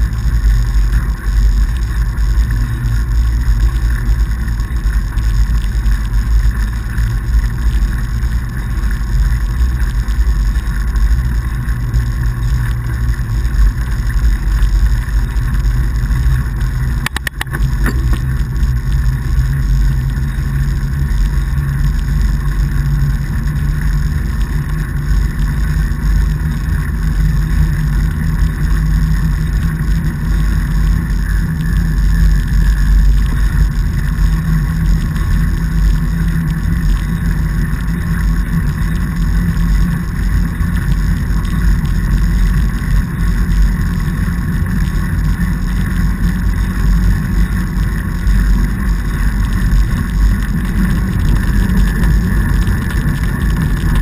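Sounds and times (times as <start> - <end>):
bike rolling on packed snow: 0.0 - 54.0.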